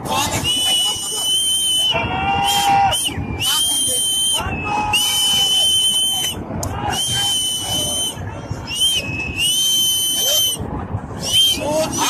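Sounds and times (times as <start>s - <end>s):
floodwater roaring: 0.0s - 12.0s
long whistle blasts: 0.4s - 10.6s, 11.2s - 11.7s.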